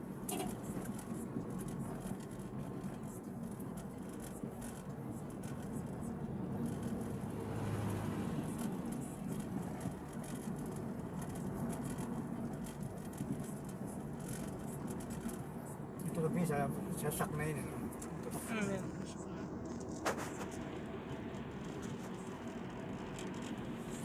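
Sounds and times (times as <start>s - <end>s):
car engine and road noise: 0.0s - 24.0s
light ticks and rattles: 0.3s - 24.0s.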